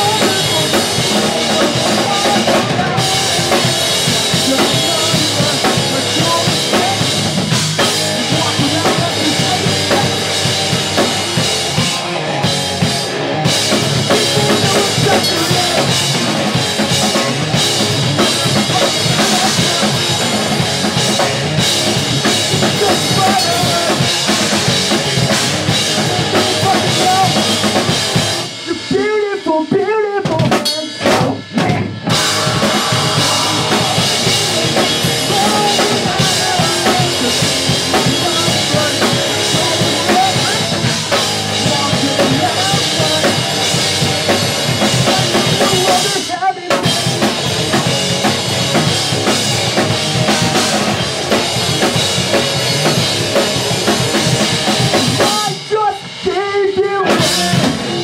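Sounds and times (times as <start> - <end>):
electric guitars: 0.0 - 29.1, 30.4 - 58.0
bass guitar: 0.0 - 58.0
drum kit: 0.0 - 58.0.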